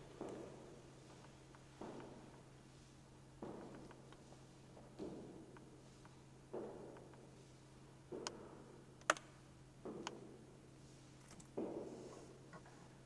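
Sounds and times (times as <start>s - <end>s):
soft footsteps on stage floor: 0.0s - 8.8s, 9.8s - 13.0s
steady low hum: 0.0s - 13.0s.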